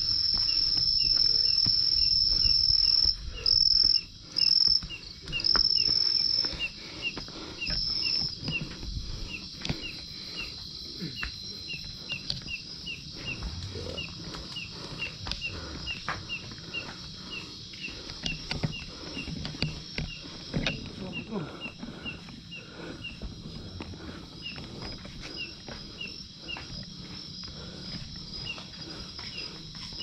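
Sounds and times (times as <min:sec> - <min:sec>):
cricket trilling: 0:00.0 - 0:30.0
footsteps on concrete and tile: 0:00.0 - 0:30.0
insect chirping: 0:00.0 - 0:30.0.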